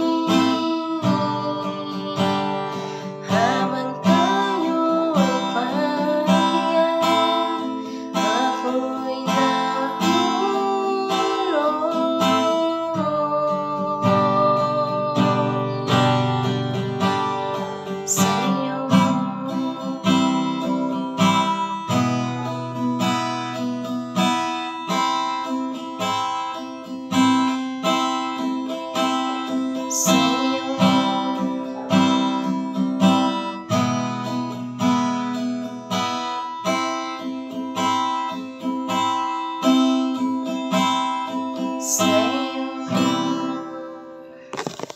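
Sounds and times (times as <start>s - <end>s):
woman singing: 0.0s - 22.9s, 27.2s - 34.5s, 37.2s - 44.8s
acoustic guitar strummed: 0.0s - 44.9s.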